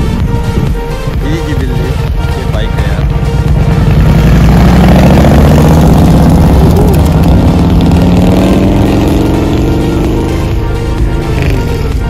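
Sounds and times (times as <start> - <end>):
motorcycle engine passing: 2.2 - 12.0.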